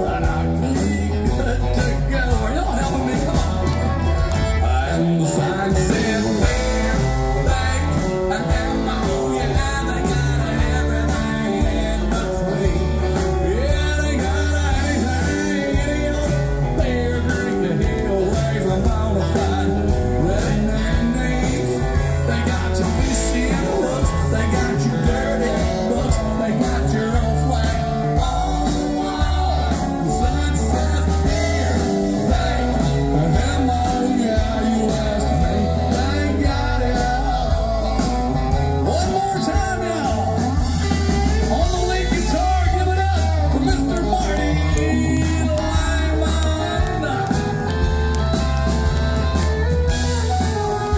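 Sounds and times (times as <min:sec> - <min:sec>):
country rock band playing: 0:00.0 - 0:50.9
man singing: 0:00.0 - 0:50.9.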